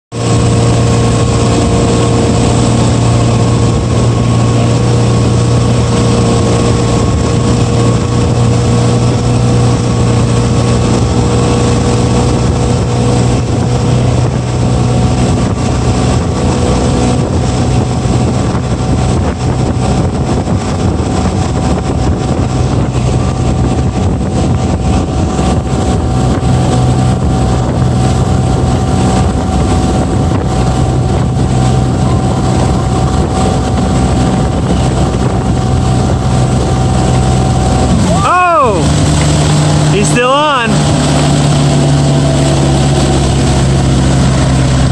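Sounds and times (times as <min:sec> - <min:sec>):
churning wake rushing: 0:00.1 - 0:44.9
motorboat engine running: 0:00.1 - 0:44.9.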